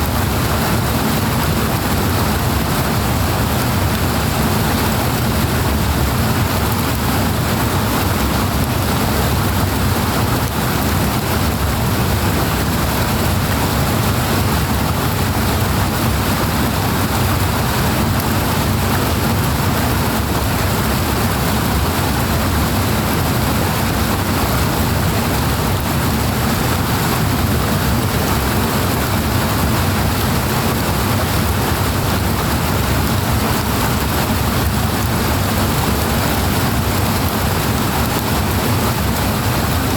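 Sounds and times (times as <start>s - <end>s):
powerfully flowing water: 0.0s - 39.9s.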